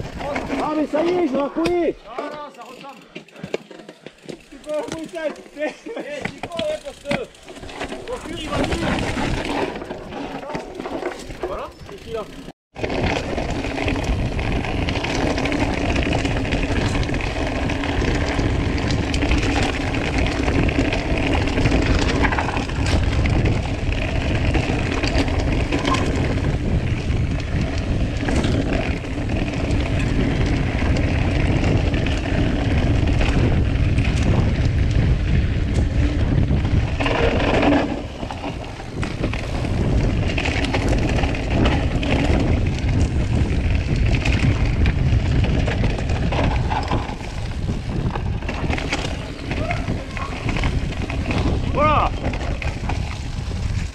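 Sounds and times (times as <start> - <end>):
wind buffeting microphone: 0.0 - 1.2, 11.3 - 53.9
bike knocks and rattles: 0.0 - 53.9
bike tyre rumble: 0.0 - 53.9.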